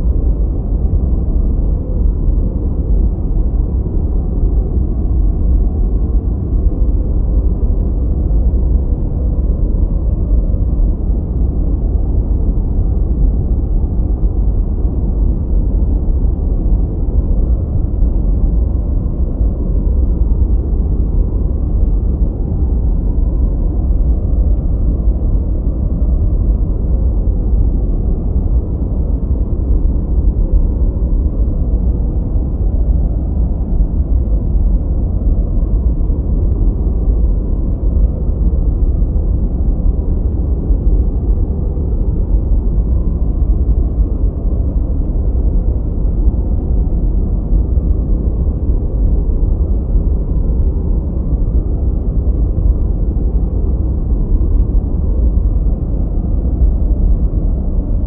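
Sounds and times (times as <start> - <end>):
deep muffled rushing noise: 0.0 - 58.0.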